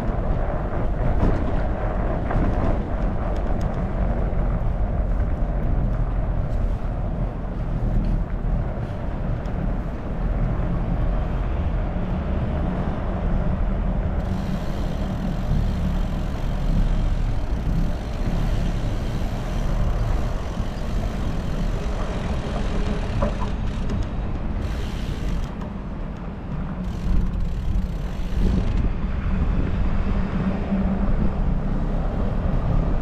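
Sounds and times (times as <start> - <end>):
bike tyre road noise: 0.0 - 33.0
wind buffeting microphone: 0.0 - 33.0.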